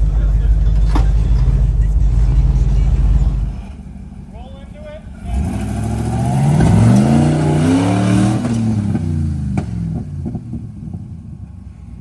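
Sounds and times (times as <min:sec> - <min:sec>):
engine revving: 0:00.0 - 0:11.5.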